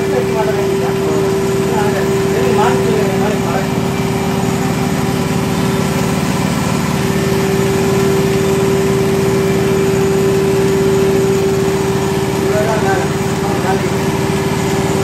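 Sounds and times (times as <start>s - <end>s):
vacuum pump humming and pulsing: 0.0s - 15.0s.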